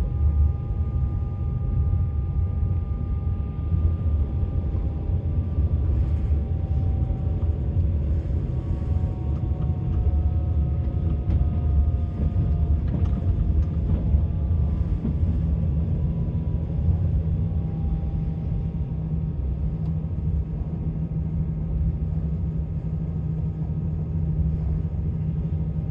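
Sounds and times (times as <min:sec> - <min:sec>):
faint whining tones: 0:00.0 - 0:25.9
train rumble: 0:02.9 - 0:25.9.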